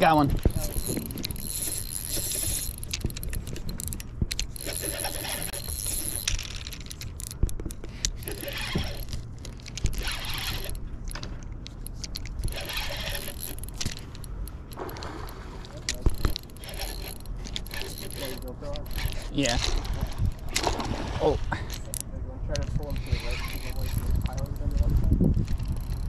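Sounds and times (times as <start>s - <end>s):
fishing reel clicks: 0.0s - 20.8s, 21.7s - 26.0s
fishing reel ratcheting whirr: 0.0s - 20.9s, 21.6s - 26.0s.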